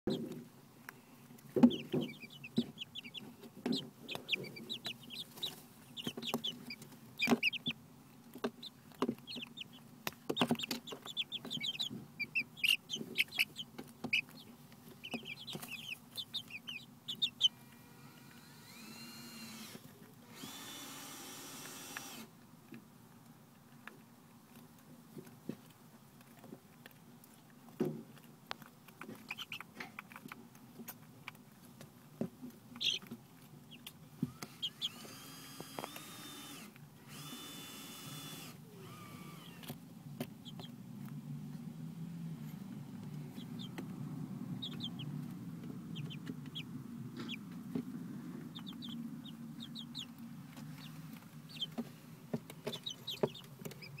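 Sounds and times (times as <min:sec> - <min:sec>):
chicks peeping and chirping: 0:00.1 - 0:21.9, 0:23.6 - 0:41.8, 0:42.4 - 0:54.0.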